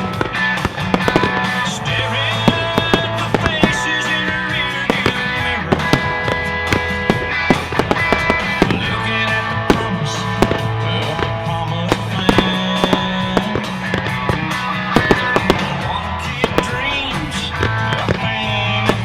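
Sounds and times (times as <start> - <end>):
fireworks bangs and crackles: 0.0 - 19.0
loud music: 0.0 - 19.0.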